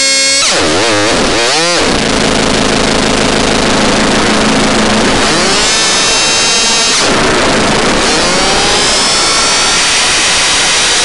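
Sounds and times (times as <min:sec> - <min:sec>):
synthesized chainsaw buzz: 0:00.0 - 0:11.0
low hum: 0:01.2 - 0:11.0.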